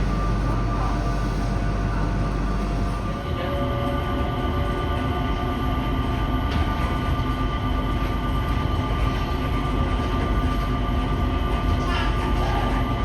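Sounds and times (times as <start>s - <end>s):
automated train running: 0.0s - 13.0s.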